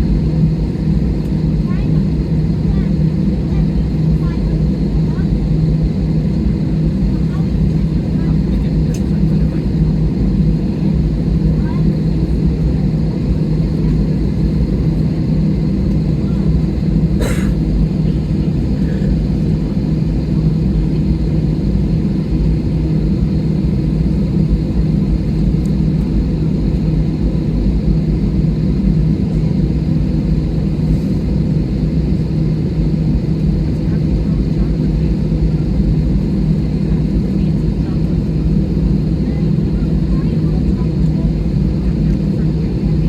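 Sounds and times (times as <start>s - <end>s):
jet airliner cabin engine hum: 0.0s - 43.0s.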